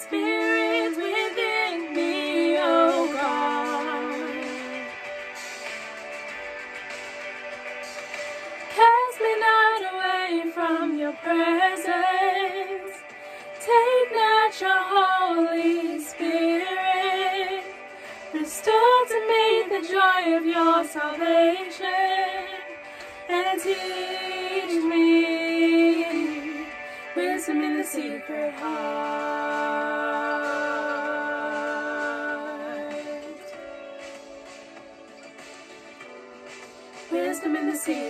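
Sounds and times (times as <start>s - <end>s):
two women singing in harmony: 0.0s - 5.0s, 8.7s - 33.6s, 37.1s - 38.0s.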